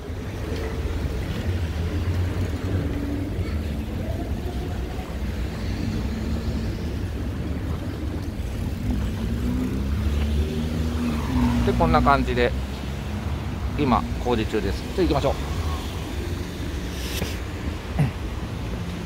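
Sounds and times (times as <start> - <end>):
low rumble of road traffic: 0.0 - 19.0
passing vehicle engine hum: 0.1 - 19.0.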